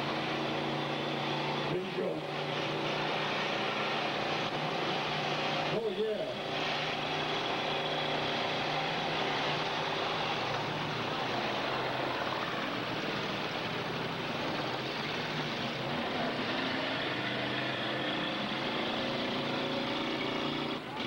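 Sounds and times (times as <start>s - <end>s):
car engines revving together: 0.0s - 21.0s.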